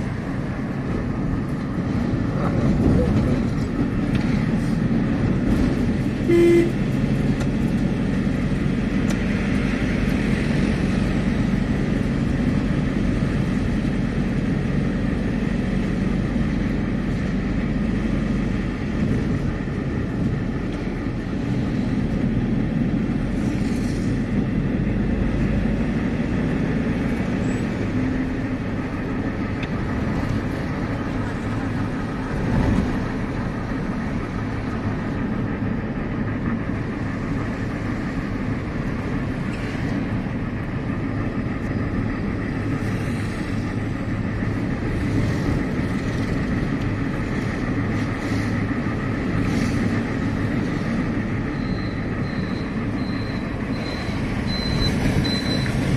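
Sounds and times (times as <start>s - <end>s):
car engine and road noise: 0.0s - 55.9s.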